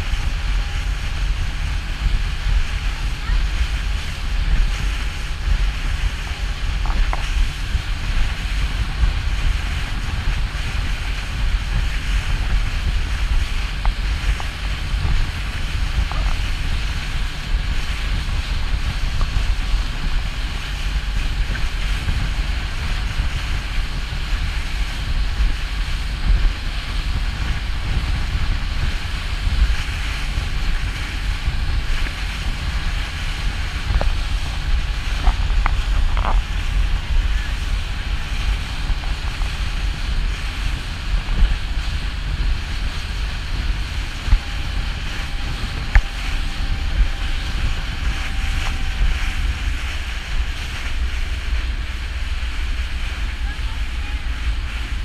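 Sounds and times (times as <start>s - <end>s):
boat wake rushing and spraying: 0.0s - 55.0s
wind buffeting microphone: 0.0s - 55.0s.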